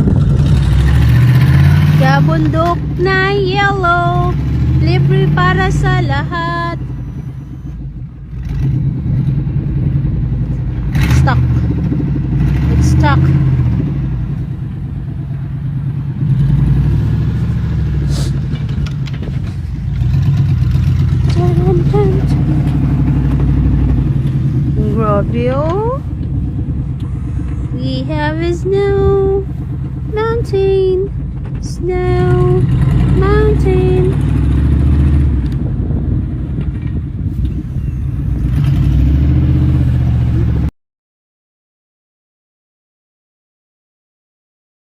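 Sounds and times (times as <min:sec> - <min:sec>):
engine running: 0:00.0 - 0:40.7.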